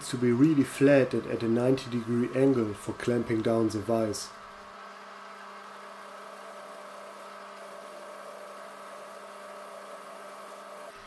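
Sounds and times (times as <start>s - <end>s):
metal lathe motor hum and whine: 0.0s - 11.0s.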